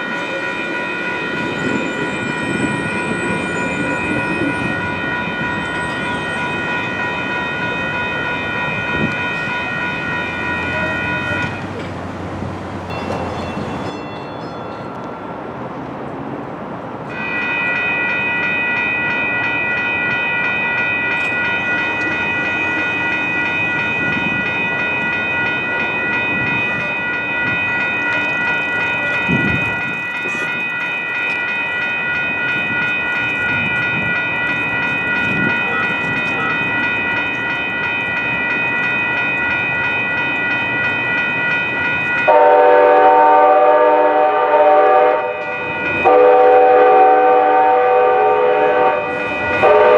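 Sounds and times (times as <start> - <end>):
crossing warning bell ringing: 0.0 - 16.1, 16.9 - 49.9
train on tracks: 0.0 - 49.9.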